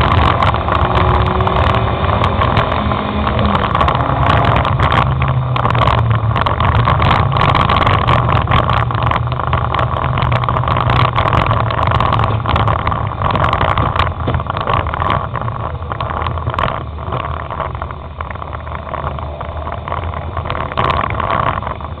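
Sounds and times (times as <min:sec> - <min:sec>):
knocks and rattles: 0:00.0 - 0:22.0
race car engine running hard: 0:00.0 - 0:22.0.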